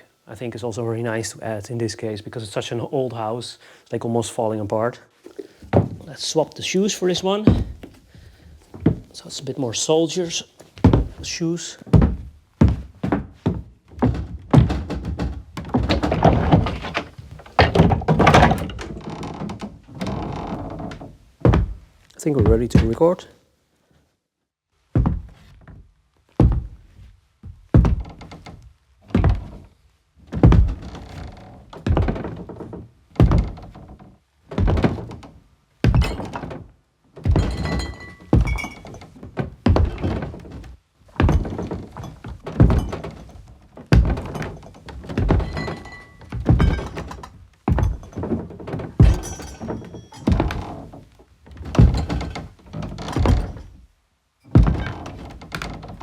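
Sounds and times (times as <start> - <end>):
heavy boot footsteps on wooden floor: 5.2 - 23.3, 24.9 - 53.9, 54.5 - 56.0.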